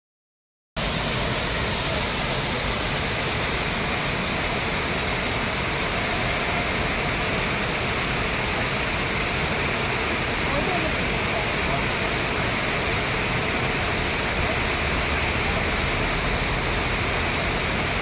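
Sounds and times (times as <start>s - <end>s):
waterfall rushing: 0.8s - 18.0s.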